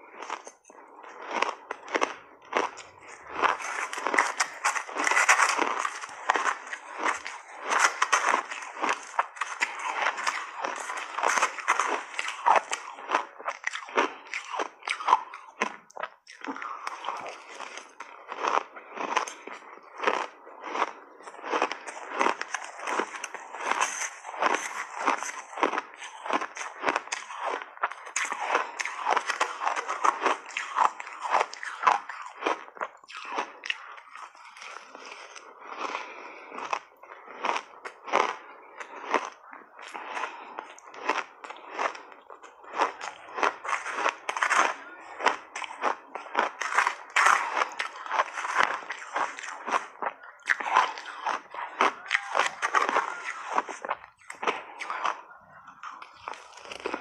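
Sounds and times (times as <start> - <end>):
chewing crunchy shaved ice: 0.0 - 57.0.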